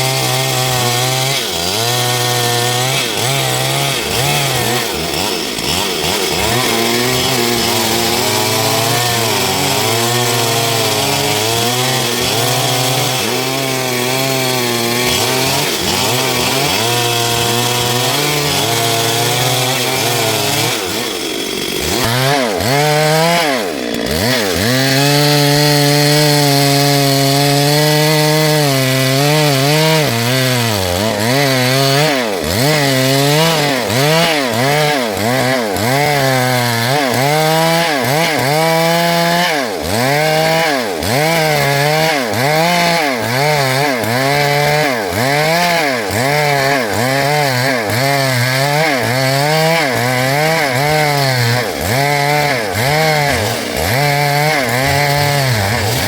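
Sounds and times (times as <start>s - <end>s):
chainsaw cutting dry wood: 0.0s - 56.0s.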